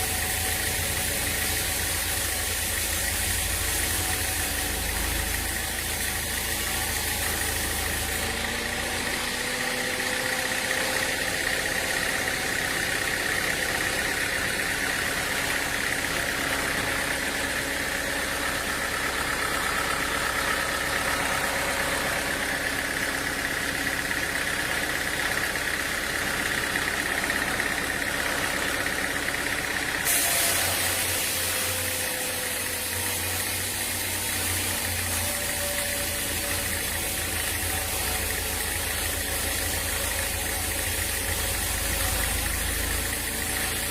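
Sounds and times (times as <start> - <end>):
machinery humming: 0.0 - 43.9.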